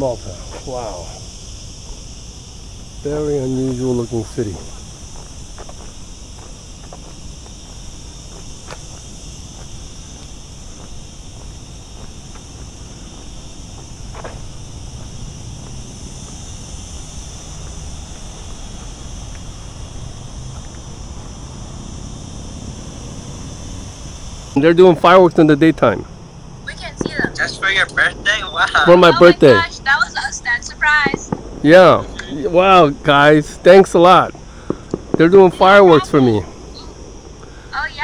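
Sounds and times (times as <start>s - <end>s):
insects shrilling: 0.0s - 38.0s.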